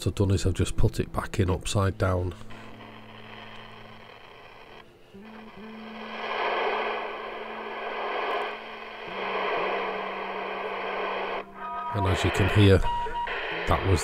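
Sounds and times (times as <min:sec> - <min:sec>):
radio static hiss: 0:02.0 - 0:14.0
steady low hum: 0:02.0 - 0:14.0.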